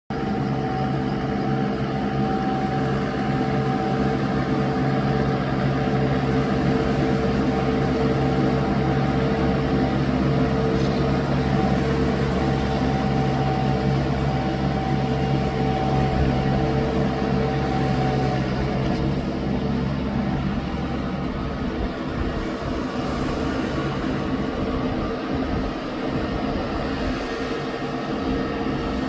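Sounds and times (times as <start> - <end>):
tractor diesel engine running: 0.1 - 29.0.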